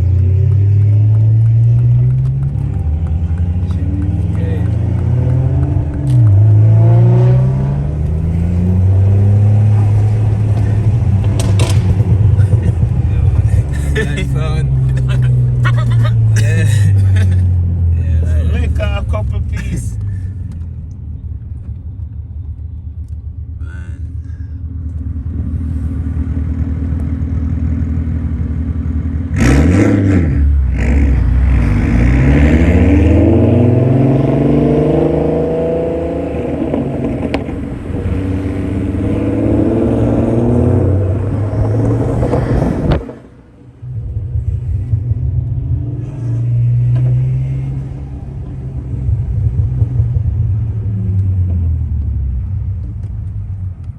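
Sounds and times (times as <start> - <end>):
turbocharged car engine revving: 0.0 - 20.2, 23.6 - 53.3.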